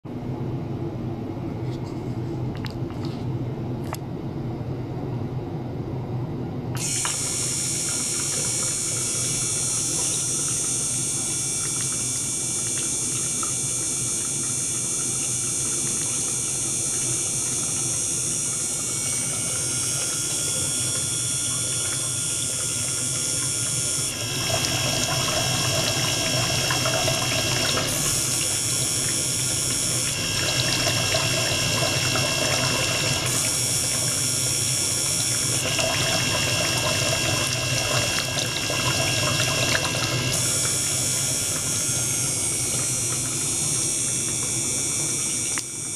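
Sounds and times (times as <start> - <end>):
circulation pump running: 0.1 - 45.9
water splashing into tank: 6.8 - 45.9.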